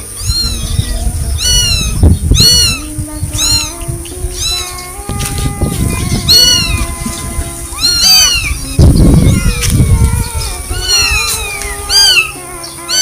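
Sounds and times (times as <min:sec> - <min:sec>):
kitten meowing: 0:00.0 - 0:05.4, 0:06.0 - 0:07.0, 0:07.7 - 0:13.0
wind rumble on microphone: 0:00.0 - 0:13.0.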